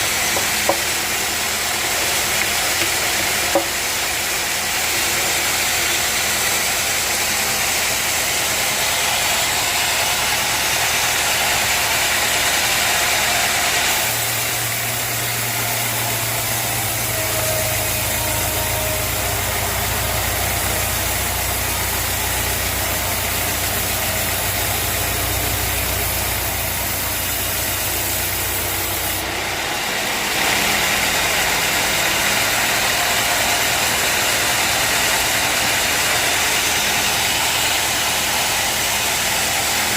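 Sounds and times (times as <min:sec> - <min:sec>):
sawmill machinery hum and hiss: 0:00.0 - 0:39.9.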